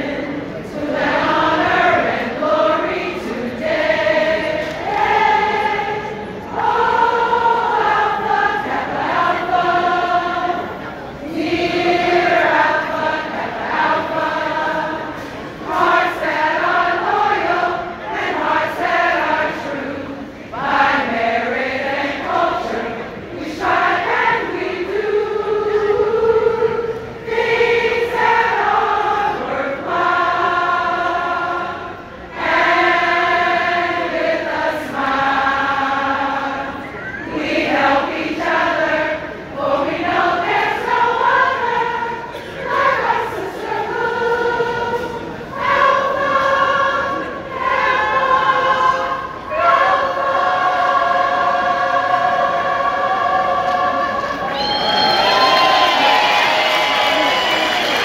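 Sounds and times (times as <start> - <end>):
women singing together: 0.0 - 58.0.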